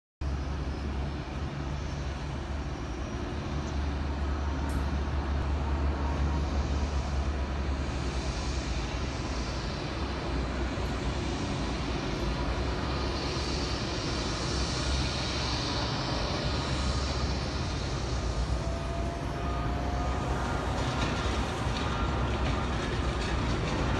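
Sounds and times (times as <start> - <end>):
distant jet engines roaring: 0.2 - 23.9.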